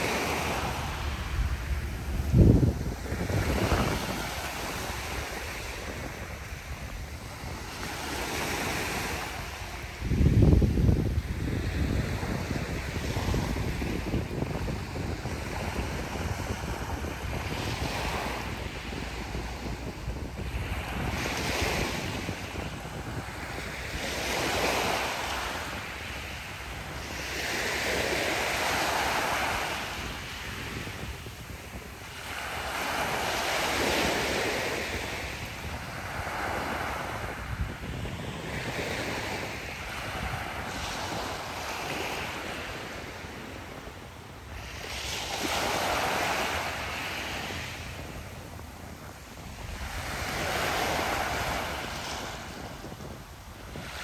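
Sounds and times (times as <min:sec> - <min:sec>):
waves washing on pebble beach: 0:00.0 - 0:54.0
wind buffeting microphone: 0:00.0 - 0:54.0.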